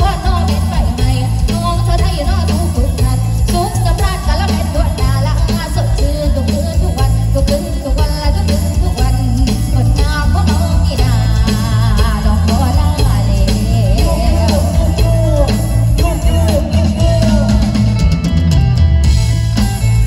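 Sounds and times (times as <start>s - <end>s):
woman singing: 0.0s - 18.1s
live band with drum kit: 0.0s - 20.0s
pulsing bass: 0.0s - 20.0s.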